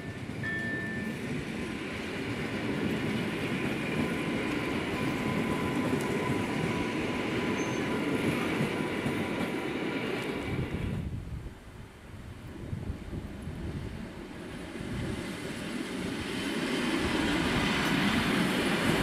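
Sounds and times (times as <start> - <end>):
train wheels rumbling on rails: 0.0 - 11.4, 12.3 - 19.0.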